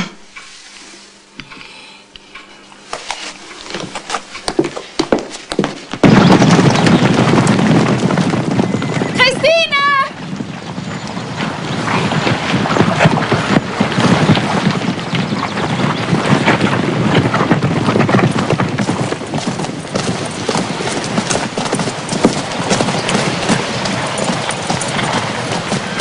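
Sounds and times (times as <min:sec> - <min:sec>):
horses galloping hoofbeats: 0:02.9 - 0:26.0.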